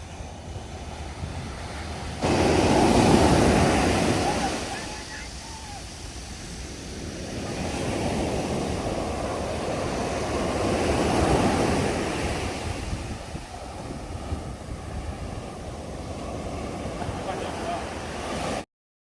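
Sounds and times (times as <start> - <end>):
sea waves surging up beach: 0.0 - 18.7.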